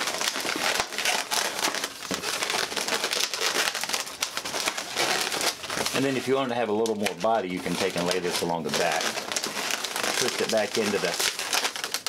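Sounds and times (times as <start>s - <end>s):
balloons rubbing and scraping: 0.0s - 12.0s.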